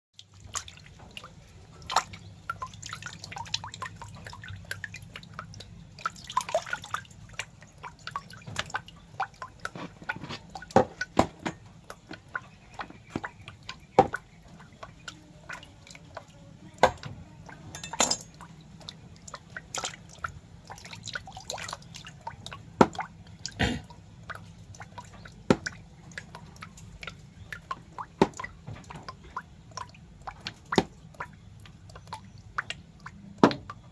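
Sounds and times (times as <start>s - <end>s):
wet clicks and drips: 0.2s - 33.9s.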